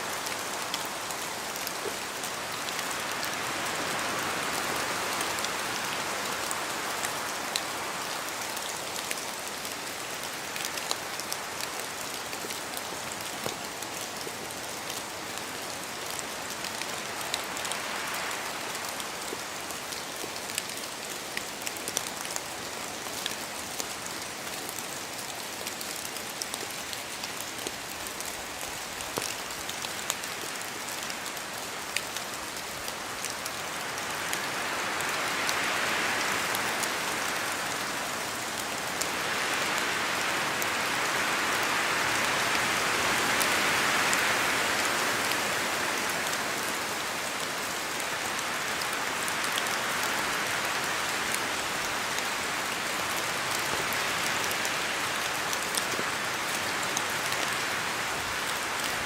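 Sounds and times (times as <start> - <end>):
rain pattering in forest: 0.0 - 59.0.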